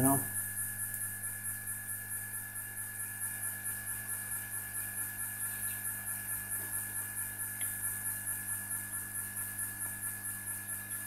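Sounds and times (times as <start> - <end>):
electrical hum with high whine: 0.0 - 11.0.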